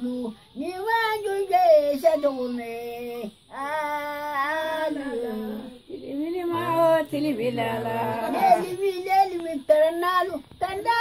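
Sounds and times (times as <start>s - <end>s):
high voice singing unaccompanied: 0.0s - 11.0s.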